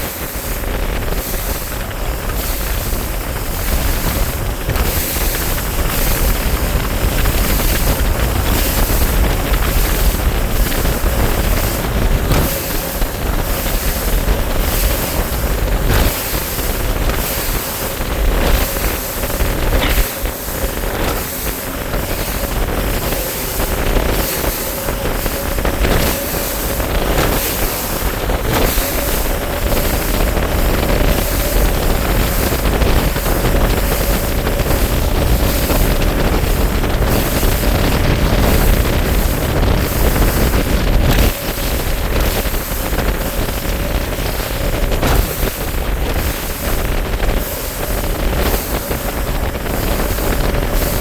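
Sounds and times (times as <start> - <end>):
outboard motor running: 0.0 - 51.0
wind buffeting microphone: 0.0 - 51.0.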